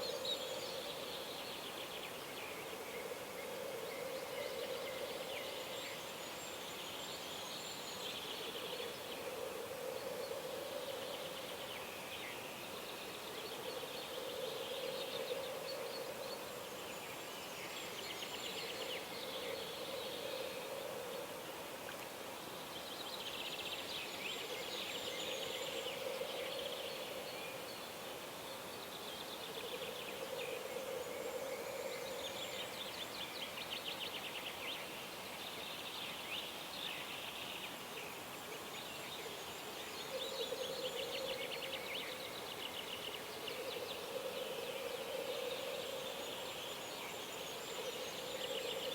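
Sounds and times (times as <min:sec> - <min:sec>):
faint steady hiss: 0:00.0 - 0:48.9.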